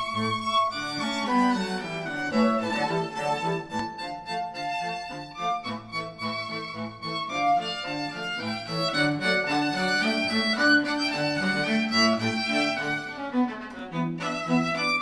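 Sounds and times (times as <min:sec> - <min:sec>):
violin and bowed strings music: 0:00.0 - 0:15.0.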